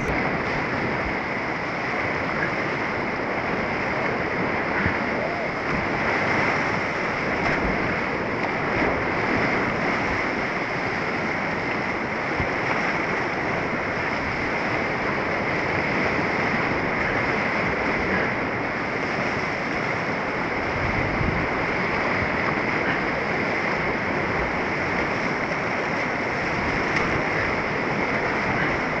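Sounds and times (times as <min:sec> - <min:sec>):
rapids rushing around kayak: 0:00.0 - 0:29.0.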